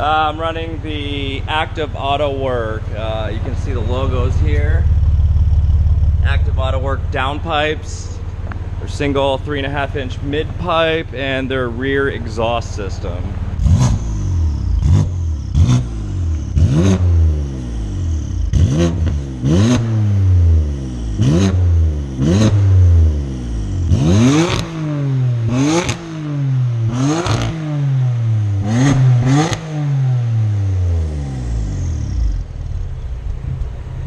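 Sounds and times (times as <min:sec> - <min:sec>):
car engine revving: 0:00.0 - 0:34.0
exhaust cracks: 0:00.0 - 0:34.0.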